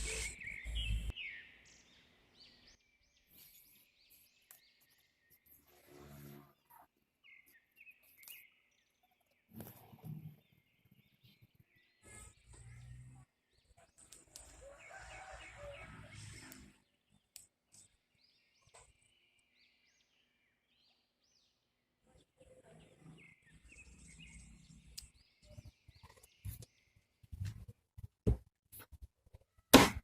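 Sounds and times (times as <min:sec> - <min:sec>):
birds chirping: 0:00.0 - 0:05.6, 0:07.2 - 0:27.4.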